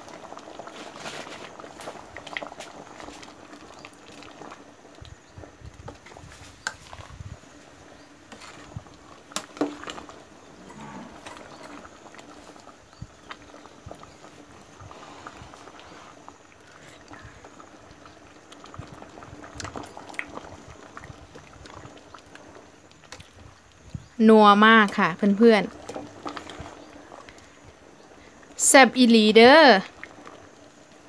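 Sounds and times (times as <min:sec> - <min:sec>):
curry simmering with low bubbling: 0:00.0 - 0:31.0.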